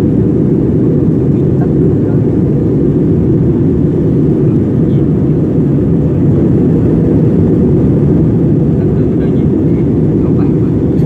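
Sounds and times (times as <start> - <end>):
jet engine roar in cabin: 0.0 - 11.0
rushing air: 0.0 - 11.0.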